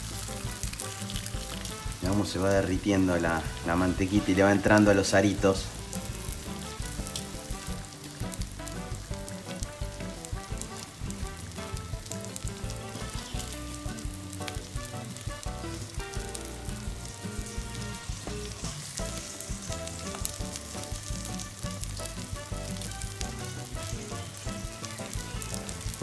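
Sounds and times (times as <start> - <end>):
background music: 0.0 - 26.0
food sizzling on a griddle: 0.0 - 26.0.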